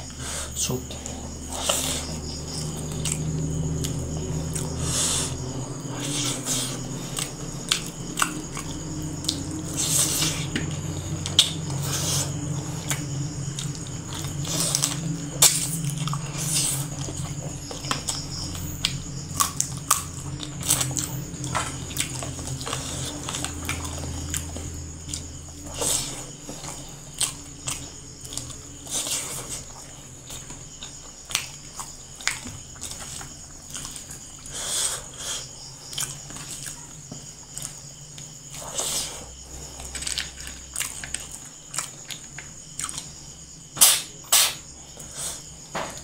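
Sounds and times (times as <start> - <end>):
chewing and lip-smacking: 1.0 - 38.9, 39.5 - 43.2.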